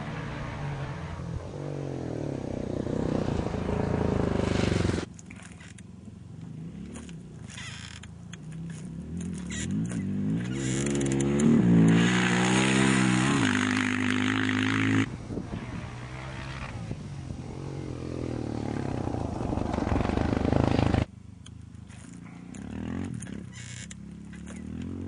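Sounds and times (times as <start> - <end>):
motorbike engines revving past: 0.0 - 5.8, 6.4 - 21.1, 22.0 - 25.0.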